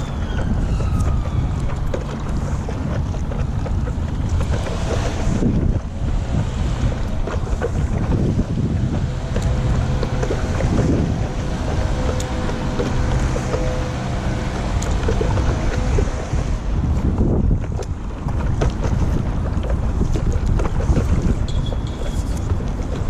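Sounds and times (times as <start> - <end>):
paddle strokes in water: 0.0 - 23.0
water sloshing and splashing: 0.0 - 23.0
wind buffeting microphone: 0.0 - 23.0.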